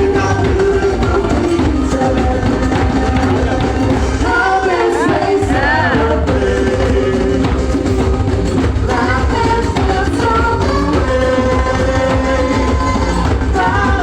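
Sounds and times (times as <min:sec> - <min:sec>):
loud music with heavy bass: 0:00.0 - 0:14.0
person singing: 0:00.0 - 0:14.0.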